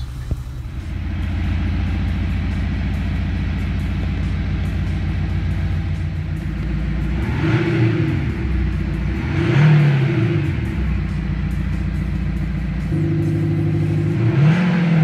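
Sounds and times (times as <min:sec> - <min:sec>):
diesel engine idling: 0:00.0 - 0:15.0
synthesized exhaust drone: 0:00.0 - 0:15.0.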